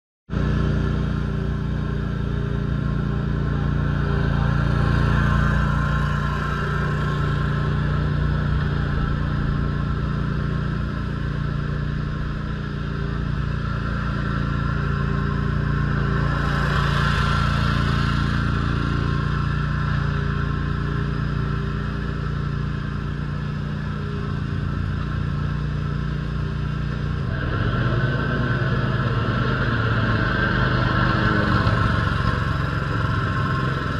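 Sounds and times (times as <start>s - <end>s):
mower engine running: 0.3s - 33.9s.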